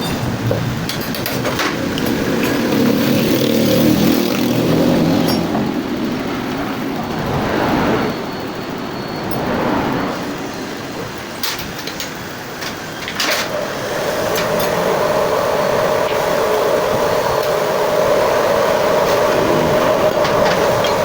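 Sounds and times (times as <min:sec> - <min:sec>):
clutch bearing whine: 0:00.0 - 0:21.0.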